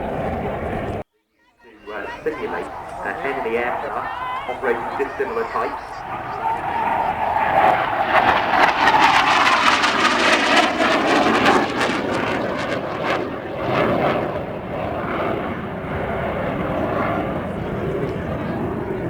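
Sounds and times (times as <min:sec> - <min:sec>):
aircraft flying past: 0:00.0 - 0:01.0, 0:01.8 - 0:19.0.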